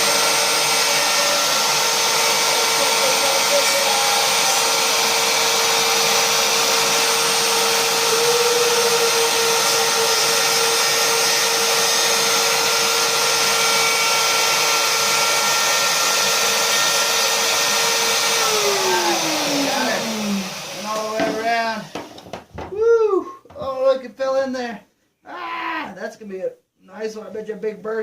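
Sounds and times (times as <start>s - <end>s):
electric router whining: 0.0s - 22.4s.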